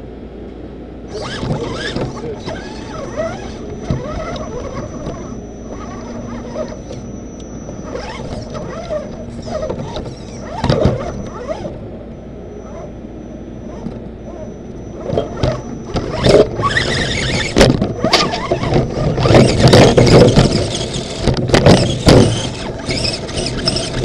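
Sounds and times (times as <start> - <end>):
electric motor and gears whining: 0.8 - 24.0
chassis squeaks and rattles: 1.1 - 11.8, 12.6 - 24.0.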